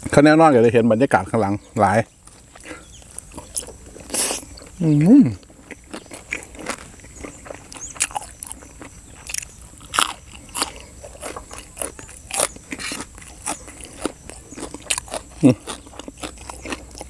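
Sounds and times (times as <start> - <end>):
man chewing crunchy food: 1.3 - 17.0.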